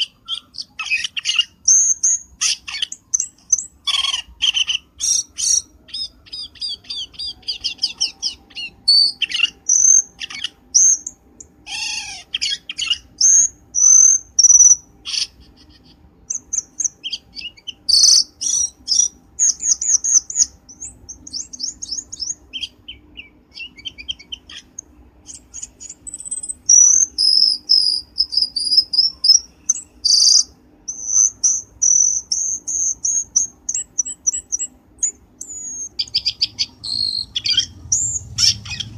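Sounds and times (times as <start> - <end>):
birdsong chirps and whistles: 0.0 - 38.9.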